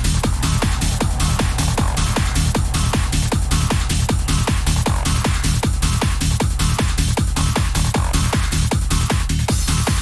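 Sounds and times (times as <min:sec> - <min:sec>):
hard house dance music: 0:00.0 - 0:10.0.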